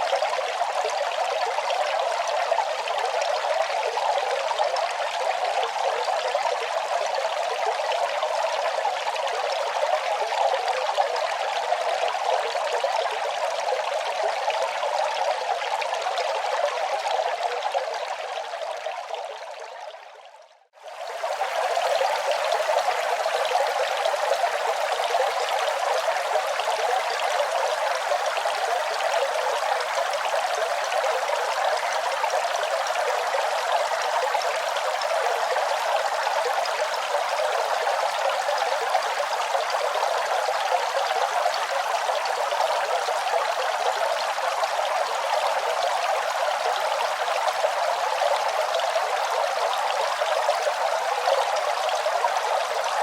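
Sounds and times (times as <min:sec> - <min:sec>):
running water: 0:00.0 - 0:53.0.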